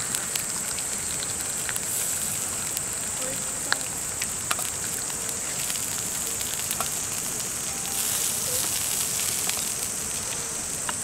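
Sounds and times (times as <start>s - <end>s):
pork sizzling on griddle: 0.0s - 11.0s.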